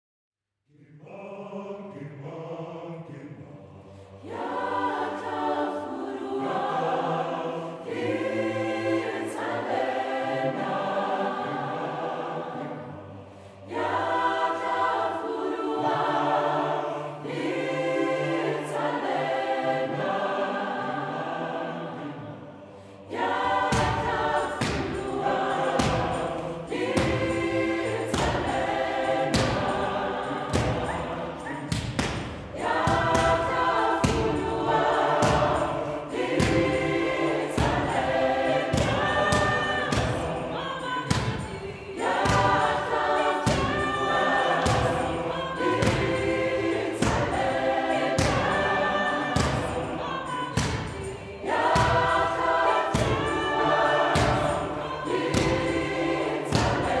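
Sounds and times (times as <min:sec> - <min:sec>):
mixed choir singing in harmony: 0:00.7 - 0:57.0.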